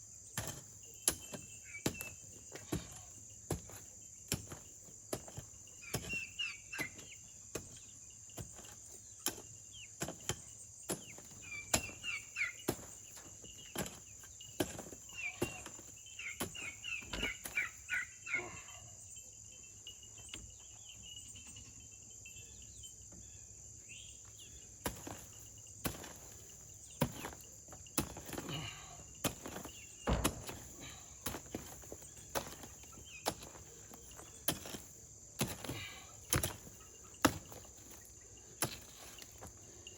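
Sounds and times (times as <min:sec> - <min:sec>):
insects droning: 0:00.0 - 0:39.9
mattock striking soil: 0:00.3 - 0:17.7, 0:24.8 - 0:39.6.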